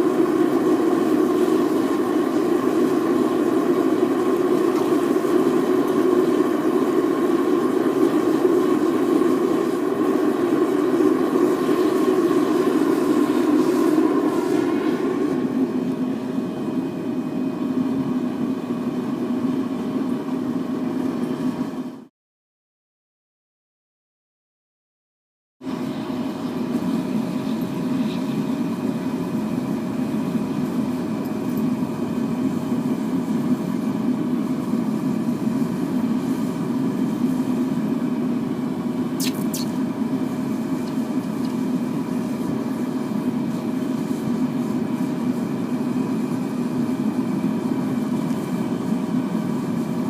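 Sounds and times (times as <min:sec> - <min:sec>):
blower humming: 0:00.0 - 0:22.0, 0:25.6 - 0:50.0
propane burner rushing: 0:00.0 - 0:22.0, 0:25.6 - 0:50.0.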